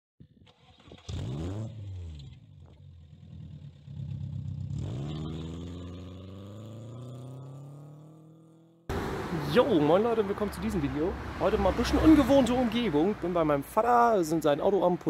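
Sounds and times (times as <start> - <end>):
car engine revving: 1.0 - 13.4.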